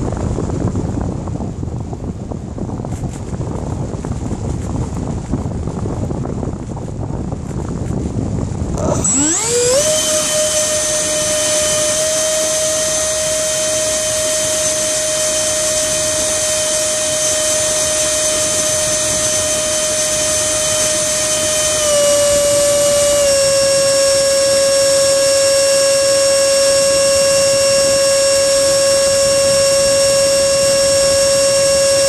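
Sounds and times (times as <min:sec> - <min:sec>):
electric ducted fan whine: 0:00.0 - 0:32.0.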